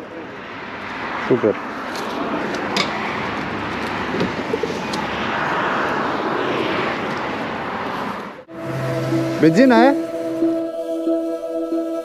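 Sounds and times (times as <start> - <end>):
road noise: 0.0 - 12.0
wind rushing: 2.2 - 12.0.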